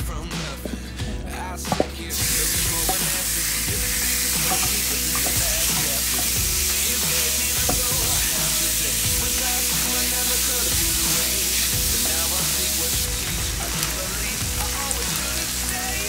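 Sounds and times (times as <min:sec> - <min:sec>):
chicken sizzling in a frying pan: 0:02.1 - 0:16.0.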